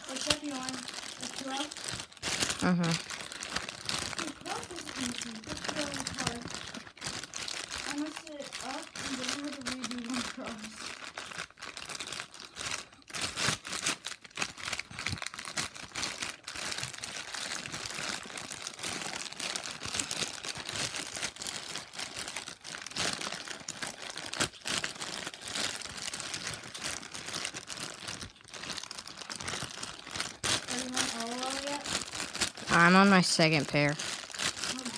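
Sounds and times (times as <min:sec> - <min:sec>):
plastic bag crinkling: 0:00.0 - 0:34.9.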